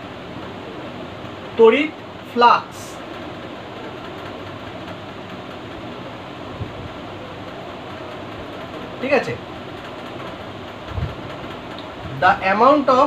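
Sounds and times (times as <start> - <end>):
room noise hiss with low hum: 0.0 - 13.0.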